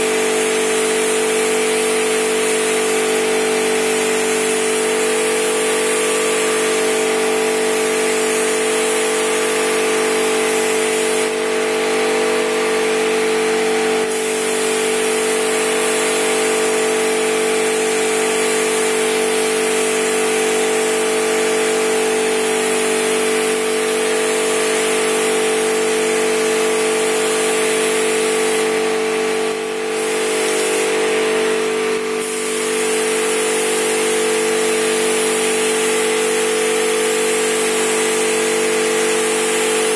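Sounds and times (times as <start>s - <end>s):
spray gun hissing: 0.1s - 11.6s, 14.0s - 39.9s.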